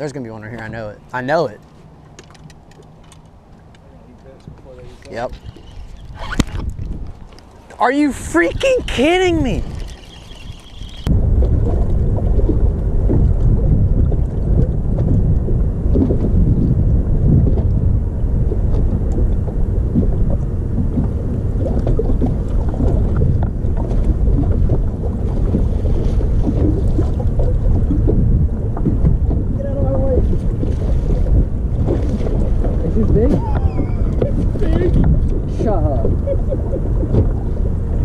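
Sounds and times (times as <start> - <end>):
wind buffeting microphone: 2.4 - 38.0.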